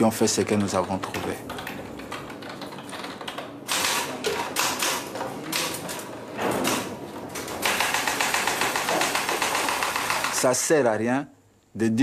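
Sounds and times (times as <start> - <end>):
electric typewriter clattering: 0.0 - 10.8.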